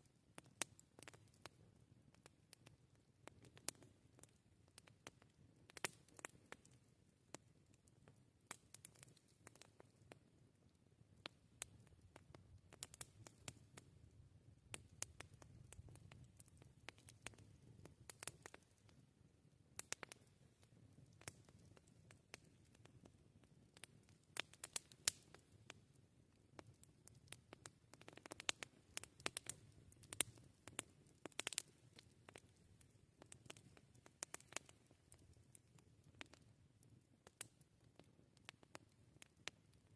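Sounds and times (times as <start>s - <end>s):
wood campfire crackling: 0.1s - 39.9s.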